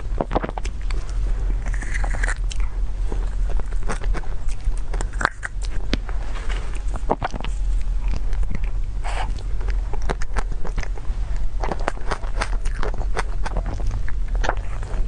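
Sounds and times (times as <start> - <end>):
low hum: 0.0 - 15.0
lip smacks and chewing: 0.3 - 15.0.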